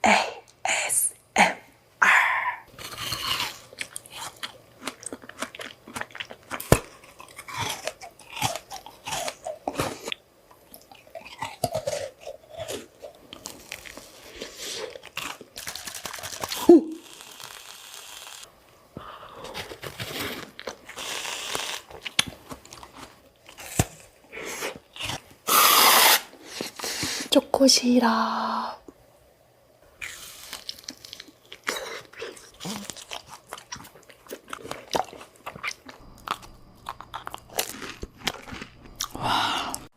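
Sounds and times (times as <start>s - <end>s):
person chewing crunchy fruit: 2.7s - 18.4s, 19.2s - 25.8s, 30.0s - 39.9s.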